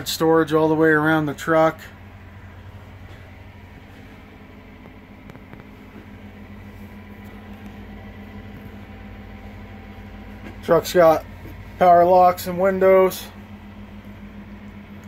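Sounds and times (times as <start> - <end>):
mechanical hum in truck cab: 0.0 - 15.0.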